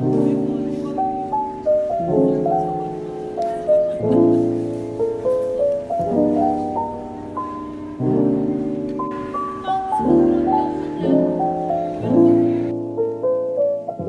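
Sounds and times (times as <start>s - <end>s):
sustained chords with melody: 0.0s - 14.0s.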